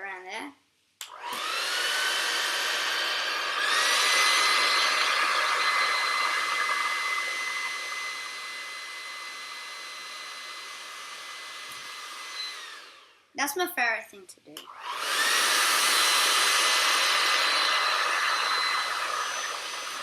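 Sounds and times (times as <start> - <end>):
hairdryer motor whine: 1.0 - 13.2, 14.6 - 20.0.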